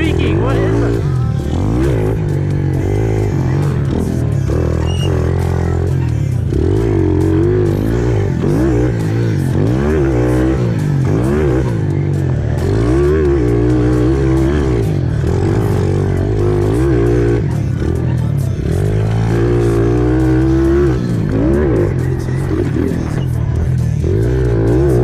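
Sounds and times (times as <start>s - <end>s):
background music with bass line: 0.0s - 25.0s
pit bike engine revving: 0.0s - 25.0s.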